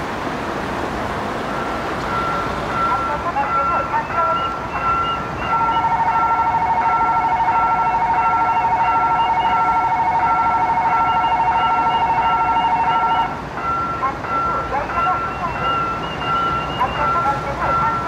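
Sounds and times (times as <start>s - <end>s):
warbling two-note tone: 3.5s - 18.0s.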